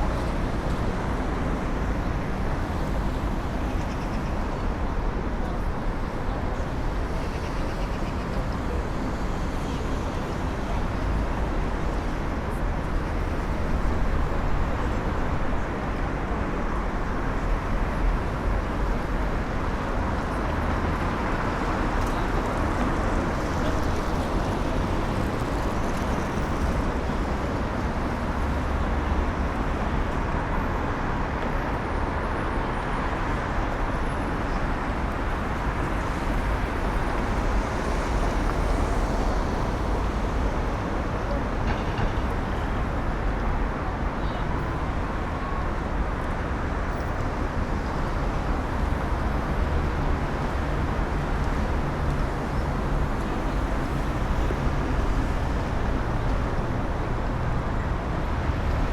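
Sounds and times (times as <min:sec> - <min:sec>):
road traffic rumble: 0:00.0 - 0:58.9.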